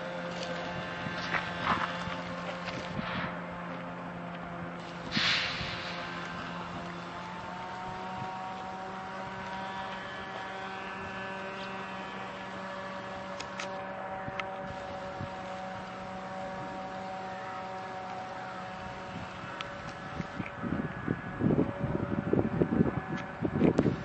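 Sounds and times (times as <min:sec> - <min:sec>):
drone propeller buzzing: 0:00.0 - 0:24.0.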